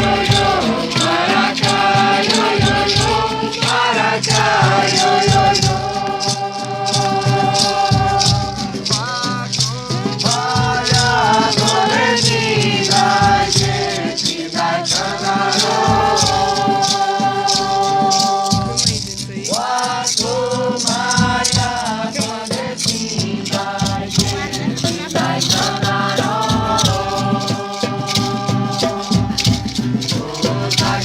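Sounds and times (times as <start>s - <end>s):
hand shakers rhythm: 0.0s - 31.0s
voices singing together: 0.0s - 31.0s.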